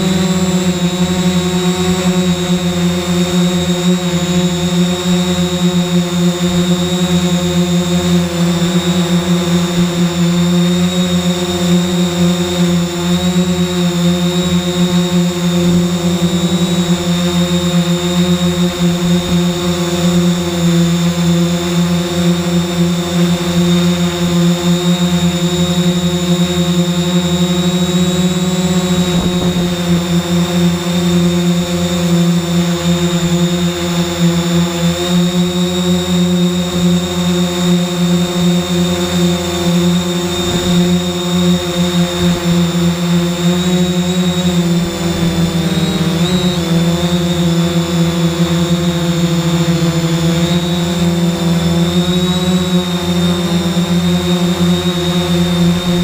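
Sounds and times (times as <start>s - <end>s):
drone motors whining: 0.0s - 56.0s.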